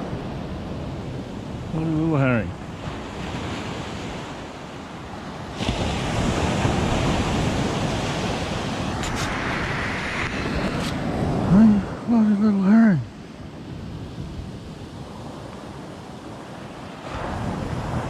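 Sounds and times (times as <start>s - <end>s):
wind buffeting microphone: 0.0s - 12.1s, 12.7s - 18.0s
surf breaking on beach: 0.0s - 18.0s.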